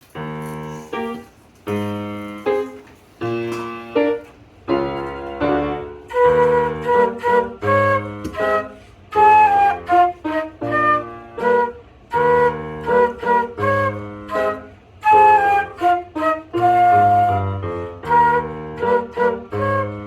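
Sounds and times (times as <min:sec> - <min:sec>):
flute melody: 0:00.2 - 0:20.0
lower accompanying notes: 0:00.4 - 0:20.0.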